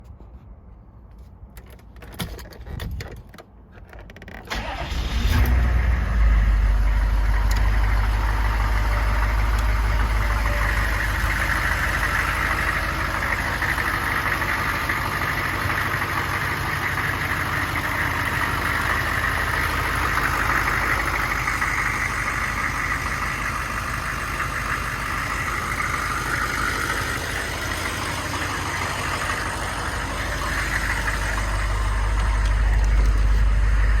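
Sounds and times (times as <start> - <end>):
diesel engine starting and idling: 4.4 - 34.0.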